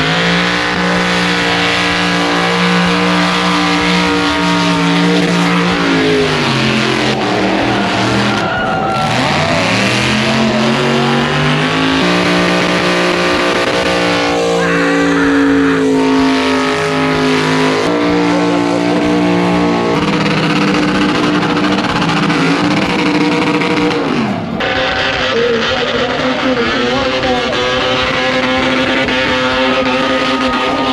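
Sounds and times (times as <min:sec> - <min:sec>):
car engine revving high: 0:00.0 - 0:30.9.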